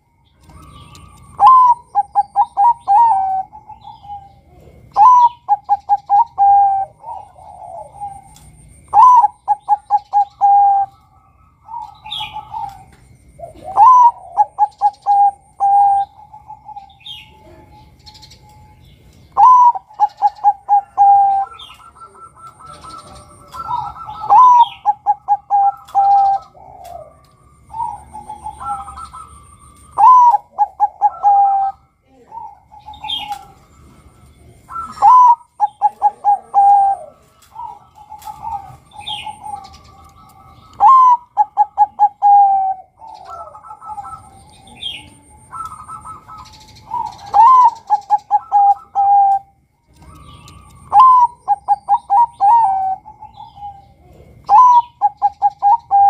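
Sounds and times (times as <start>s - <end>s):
dove cooing: 0.0s - 56.0s
small birds chirping: 0.0s - 56.0s.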